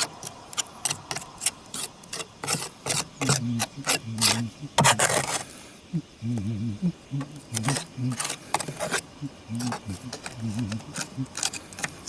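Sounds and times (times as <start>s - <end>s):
rasping scrapes on roof tiles: 0.0s - 5.5s, 7.5s - 12.0s.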